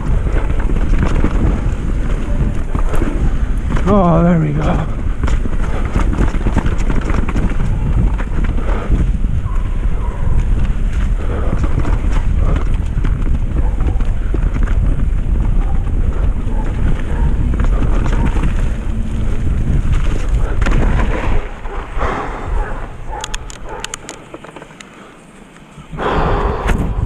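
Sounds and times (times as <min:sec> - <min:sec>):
wind buffeting the microphone: 0:00.0 - 0:24.4, 0:25.9 - 0:27.0
tyres rumbling on the ground: 0:00.0 - 0:24.8
bike clattering and rattling: 0:00.0 - 0:25.8.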